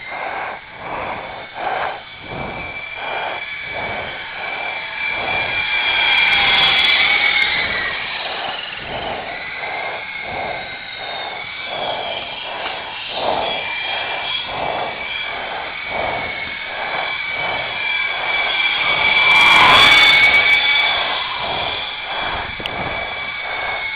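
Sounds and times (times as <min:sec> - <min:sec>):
toy helicopter motors whining: 0:00.0 - 0:23.9.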